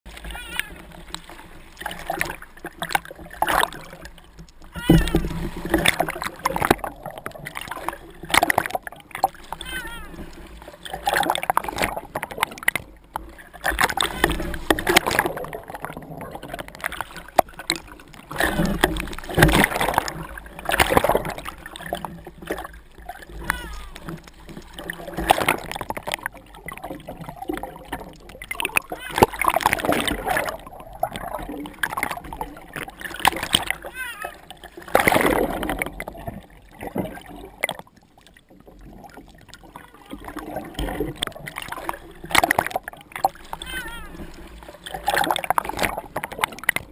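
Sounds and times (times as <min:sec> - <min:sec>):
sea water sloshing and splashing: 0:00.0 - 0:46.9.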